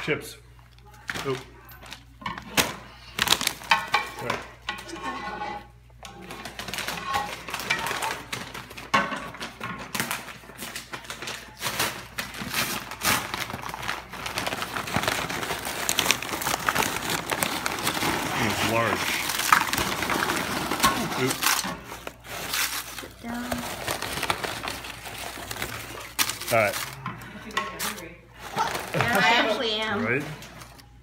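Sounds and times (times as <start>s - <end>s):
chips crinkling: 0.7s - 4.0s, 6.1s - 31.0s
kitchen clicks and clatter: 1.0s - 29.3s.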